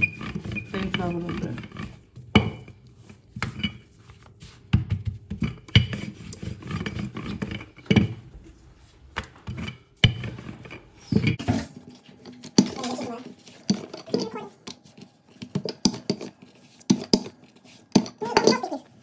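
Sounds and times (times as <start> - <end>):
rolling pin rubbing over dough: 0.0 - 19.0.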